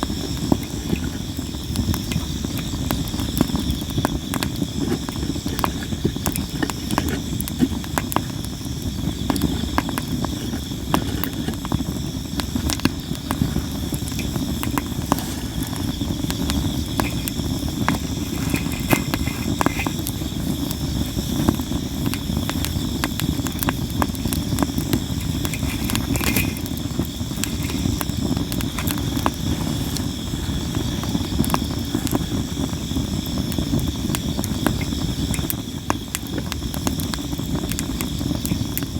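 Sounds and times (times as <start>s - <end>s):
campfire crackles and pops: 0.0s - 38.9s
insects trilling: 0.0s - 38.9s
low rumble of flame: 0.0s - 38.9s.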